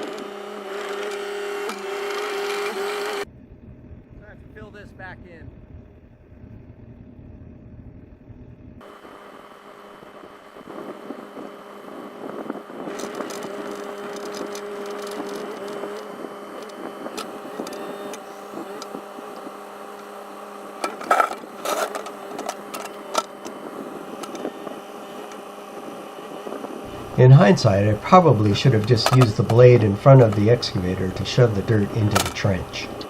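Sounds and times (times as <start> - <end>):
excavator engine running: 0.0 - 33.0.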